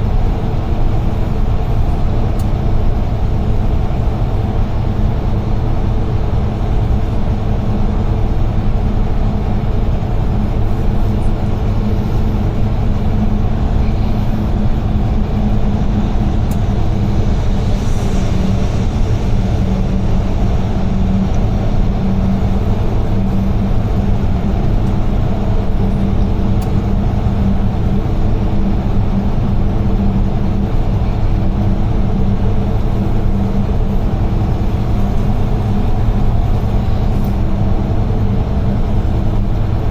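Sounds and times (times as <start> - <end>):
road and tyre noise: 0.0 - 39.9
truck engine drone: 0.0 - 39.9.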